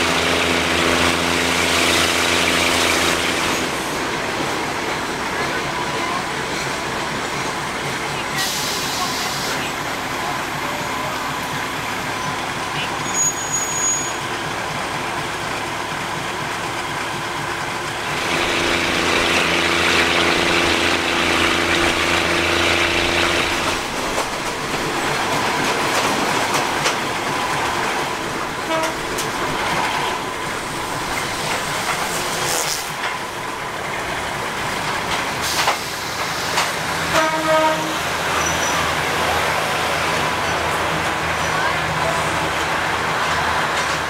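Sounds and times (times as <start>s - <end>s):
diesel train engine: 0.0s - 44.0s
train wheels on track: 0.0s - 44.0s.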